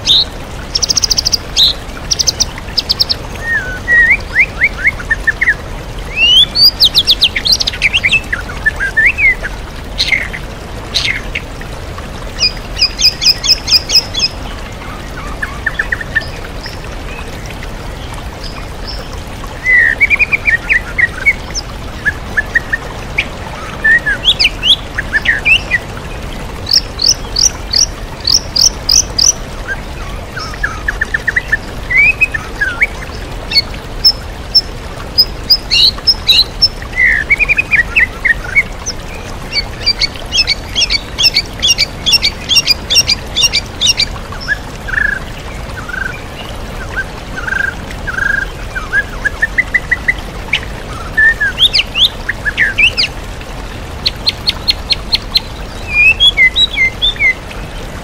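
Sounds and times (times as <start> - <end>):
bird singing chirps and trills: 0.0 - 11.6, 12.2 - 53.2, 54.0 - 57.8
waterfall rushing: 0.0 - 58.0.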